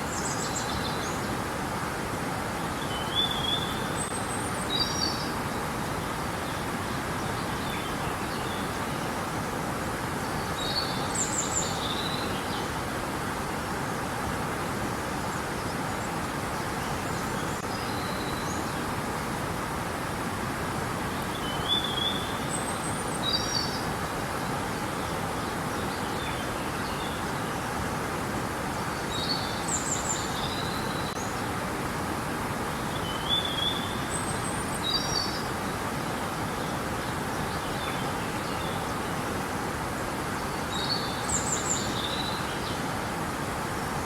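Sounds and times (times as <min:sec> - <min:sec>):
river water flowing: 0:00.0 - 0:44.0.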